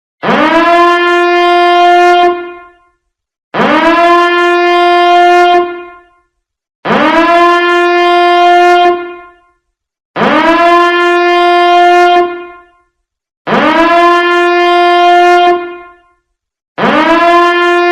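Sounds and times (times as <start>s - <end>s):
alarm horn rising in pitch: 0.2s - 2.9s, 3.6s - 6.2s, 6.8s - 9.6s, 10.2s - 12.8s, 13.5s - 16.2s, 16.8s - 17.9s.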